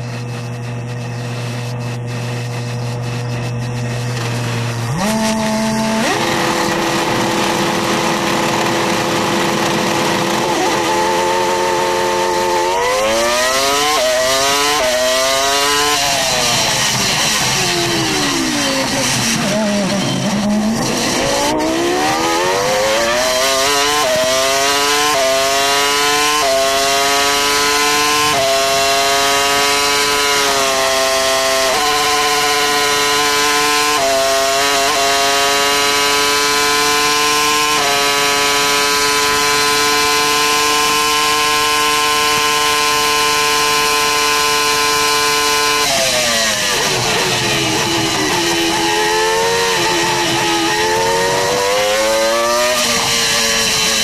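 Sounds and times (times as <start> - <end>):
racing car engine accelerating: 0.6 - 54.0.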